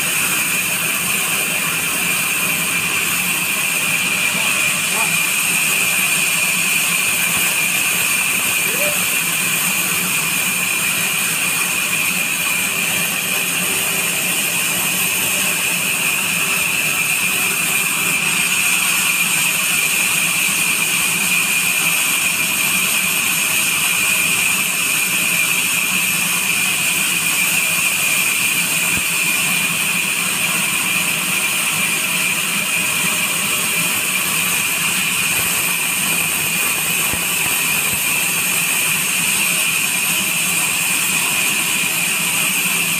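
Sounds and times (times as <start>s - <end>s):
band saw whining through log: 0.0s - 42.9s.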